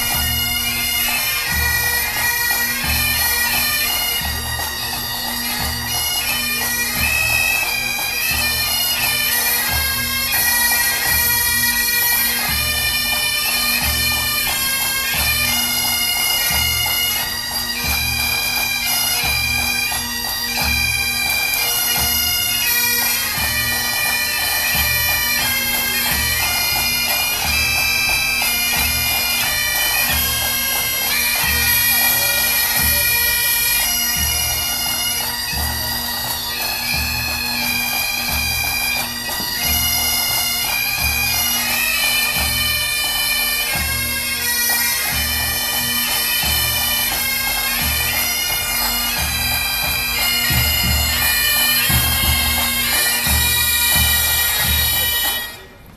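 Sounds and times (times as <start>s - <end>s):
bagpipes playing a tune: 0.0s - 55.9s.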